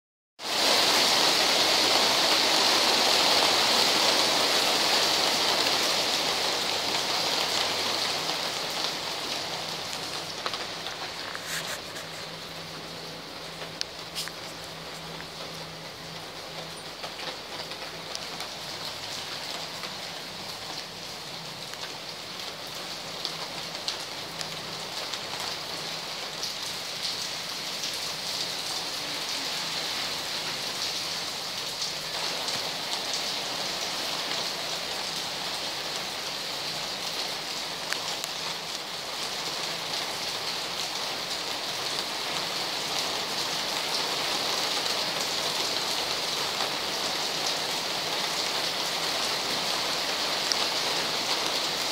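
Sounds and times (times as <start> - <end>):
heavy rain falling: 0.4 - 51.9.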